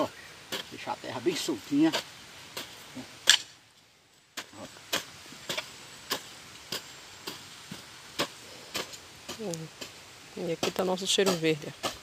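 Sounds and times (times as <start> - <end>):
hand tool chopping wet soil: 0.4 - 3.5, 4.4 - 12.0.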